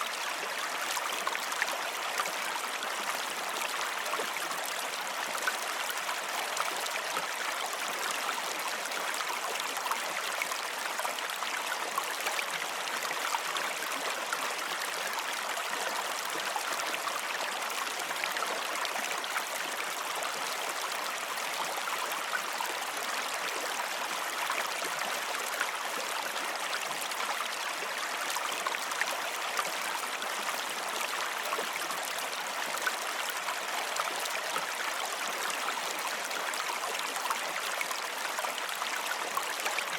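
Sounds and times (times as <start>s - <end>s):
water flowing over stones: 0.0s - 39.9s.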